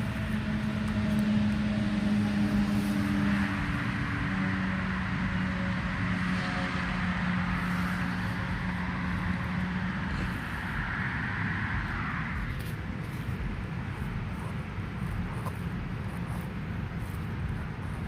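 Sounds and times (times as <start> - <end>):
low outdoor rumble: 0.0 - 18.0
vehicle passing: 0.0 - 18.0.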